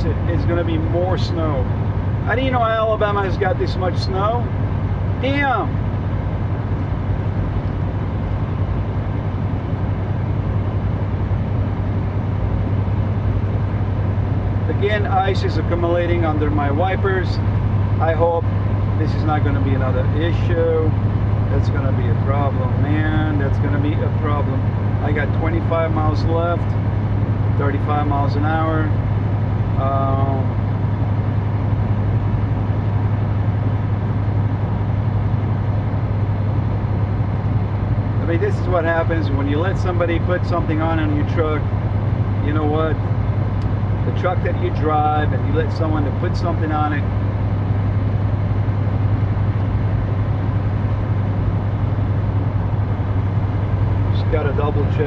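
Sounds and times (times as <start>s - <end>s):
diesel truck engine droning: 0.0s - 55.0s
road and air noise: 0.0s - 55.0s.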